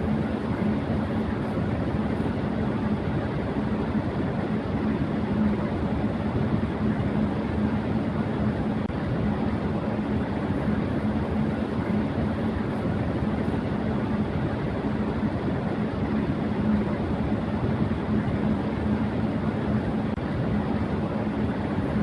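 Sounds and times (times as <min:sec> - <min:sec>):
electric fan whooshing: 0:00.0 - 0:22.0
low hum: 0:00.0 - 0:22.0.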